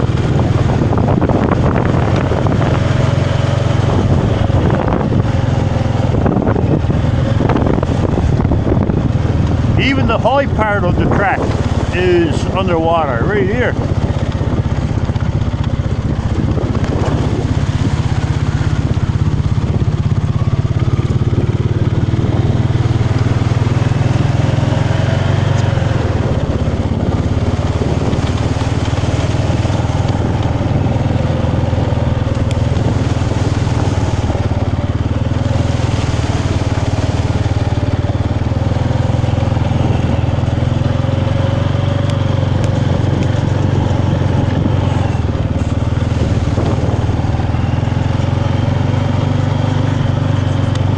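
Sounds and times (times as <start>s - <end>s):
small motorbike engine running: 0.0s - 50.9s.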